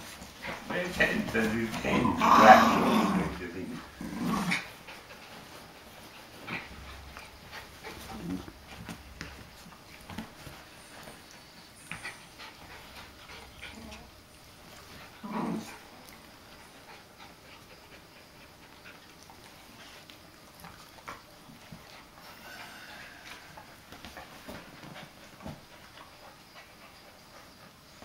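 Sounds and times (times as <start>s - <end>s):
dogs panting: 0.0s - 2.6s, 3.3s - 28.0s.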